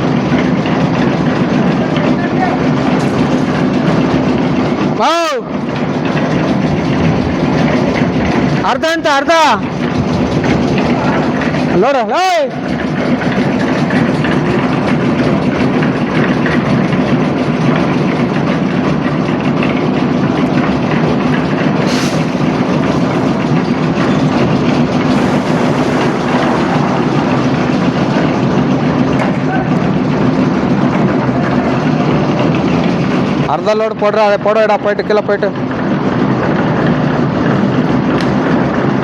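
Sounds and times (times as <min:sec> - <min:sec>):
concrete mixer engine running: 0:00.0 - 0:39.0
mixer drum rattling: 0:00.0 - 0:39.0.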